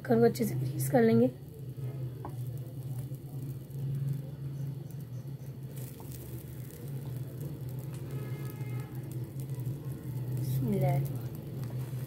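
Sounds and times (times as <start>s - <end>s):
butter crackling as it melts: 0.0s - 12.0s
steady low hum: 0.0s - 12.0s.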